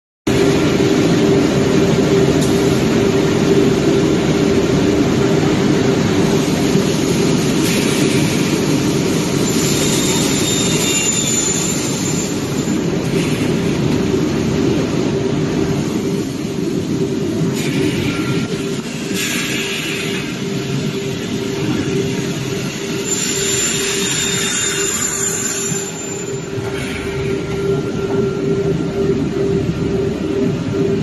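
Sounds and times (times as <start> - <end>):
high whine: 0.3 - 31.0
machinery low hum: 0.3 - 31.0.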